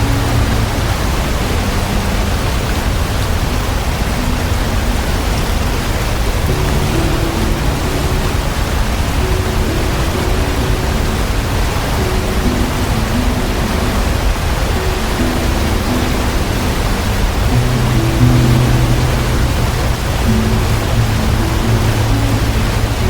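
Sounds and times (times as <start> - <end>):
soft low music notes: 0.0 - 23.0
waterfall roaring: 0.0 - 23.0.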